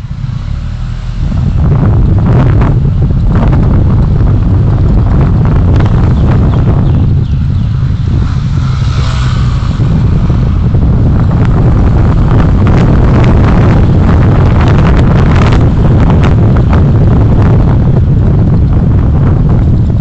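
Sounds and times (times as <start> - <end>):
road and wind rumble: 0.0 - 20.0
wind buffeting microphone: 0.0 - 20.0.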